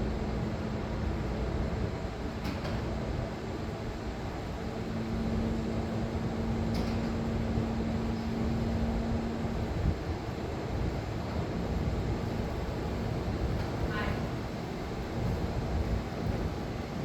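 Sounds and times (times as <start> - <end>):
fan-like noise: 0.0 - 17.0.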